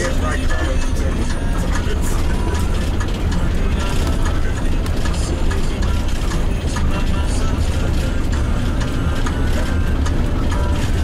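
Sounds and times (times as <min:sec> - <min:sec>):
engine and tyres rumbling: 0:00.0 - 0:11.0.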